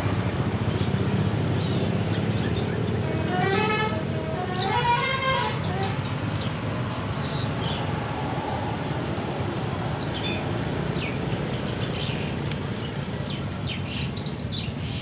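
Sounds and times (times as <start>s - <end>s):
road traffic: 0.0s - 15.0s
vehicle engine rumble: 0.0s - 15.0s.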